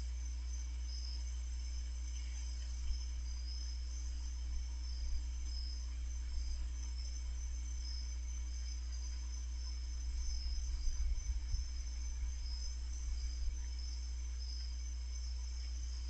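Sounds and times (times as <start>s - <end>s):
constant low hum: 0.0s - 16.0s
crickets chirring: 0.0s - 16.0s.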